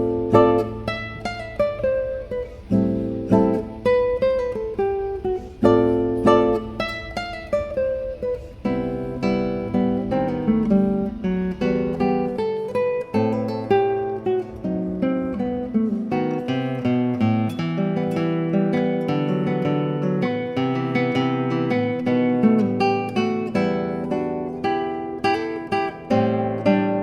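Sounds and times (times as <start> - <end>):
classical guitar plucked notes: 0.0 - 27.0.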